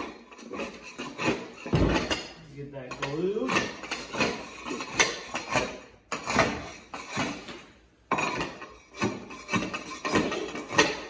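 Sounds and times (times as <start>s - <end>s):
floor scraper rasping on wood: 0.0s - 2.0s, 3.4s - 7.7s, 8.3s - 11.0s.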